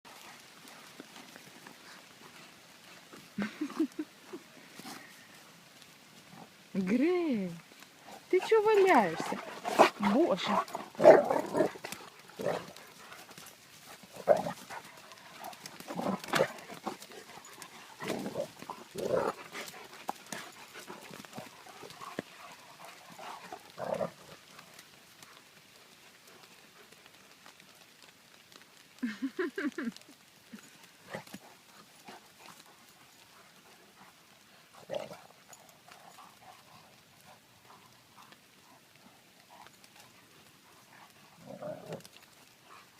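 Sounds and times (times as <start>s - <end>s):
dogs playing: 0.1s - 28.6s, 29.3s - 42.9s.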